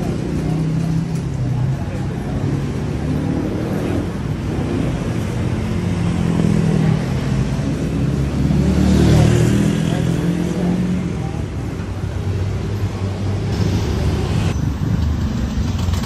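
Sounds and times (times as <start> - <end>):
traffic engines running: 0.0 - 16.0.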